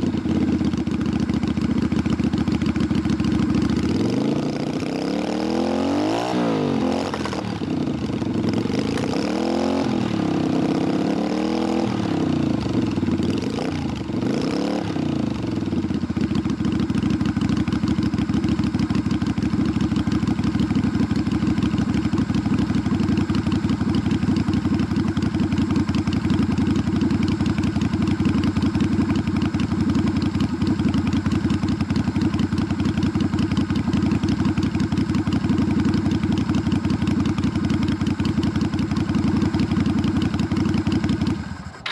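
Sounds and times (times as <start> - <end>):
motorcycle engine revving and idling: 0.0 - 41.9.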